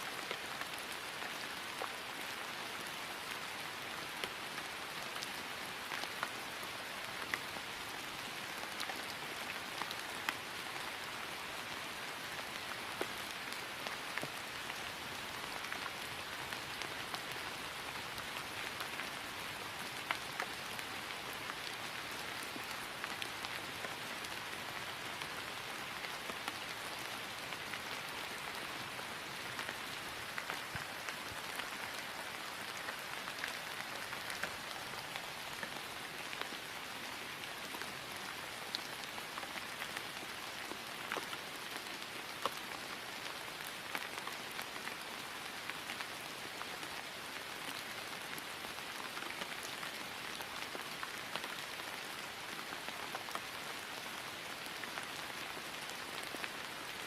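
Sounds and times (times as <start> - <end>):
rain falling on grass: 0.0 - 57.0.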